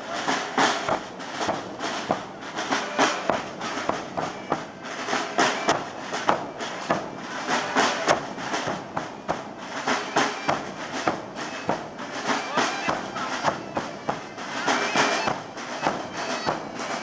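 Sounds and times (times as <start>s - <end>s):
bass drums beaten together: 0.0s - 17.0s.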